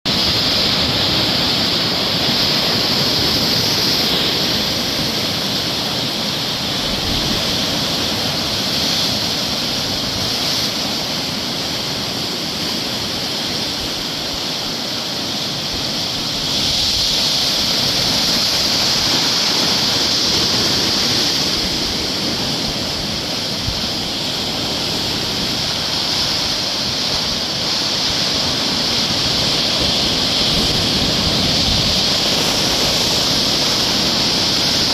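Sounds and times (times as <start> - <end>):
sea waves breaking on beach: 0.1 - 34.9.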